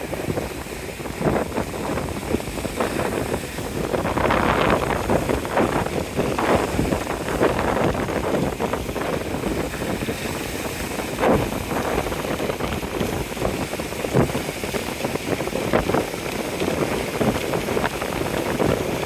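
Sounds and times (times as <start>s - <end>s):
surf washing: 0.0s - 19.0s
wind buffeting microphone: 0.0s - 19.0s.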